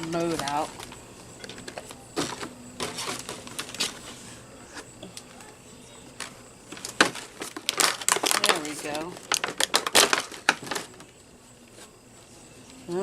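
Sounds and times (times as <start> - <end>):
packaging rustling: 0.0 - 5.5, 6.1 - 12.2.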